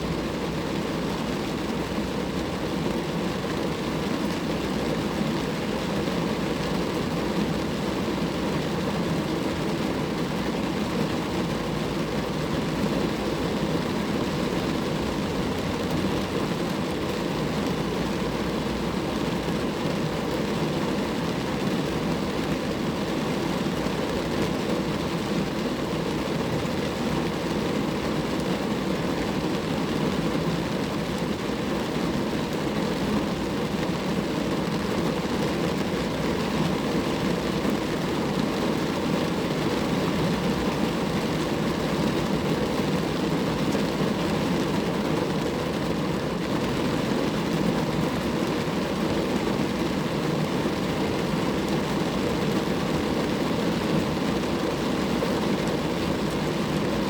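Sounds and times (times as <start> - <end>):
rain pattering on a car: 0.0 - 57.0.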